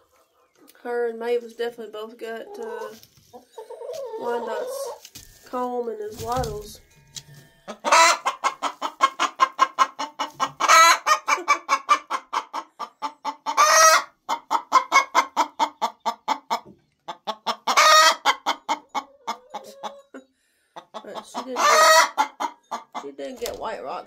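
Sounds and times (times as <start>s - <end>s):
hen clucking: 0.0s - 0.8s, 2.0s - 6.8s, 7.6s - 24.0s.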